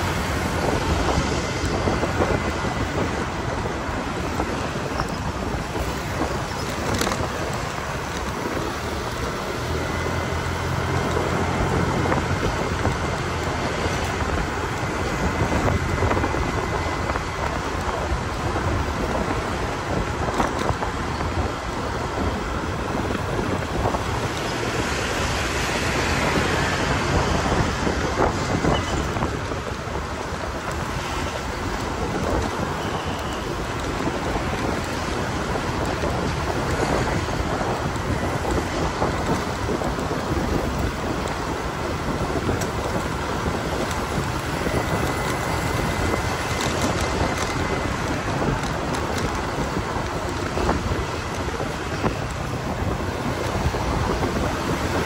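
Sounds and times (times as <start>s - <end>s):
motorbike road and engine noise: 0.0s - 55.0s
wind on microphone: 0.0s - 55.0s.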